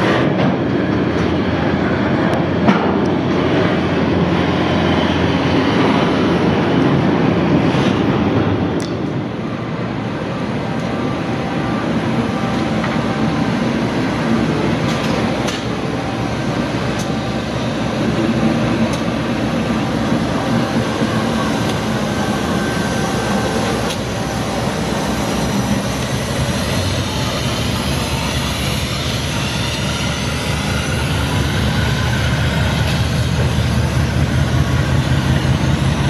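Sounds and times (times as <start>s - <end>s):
locomotives passing: 0.0s - 36.0s.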